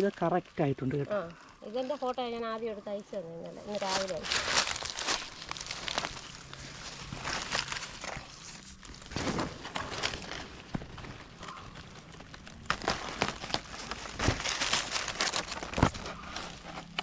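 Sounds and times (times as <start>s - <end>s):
dry leaves rustling and crackling: 0.0s - 17.0s.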